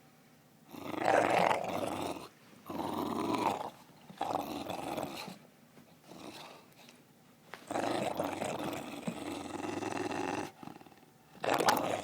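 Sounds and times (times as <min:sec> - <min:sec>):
dog growling: 0:00.7 - 0:05.4, 0:06.0 - 0:06.6, 0:07.7 - 0:12.0.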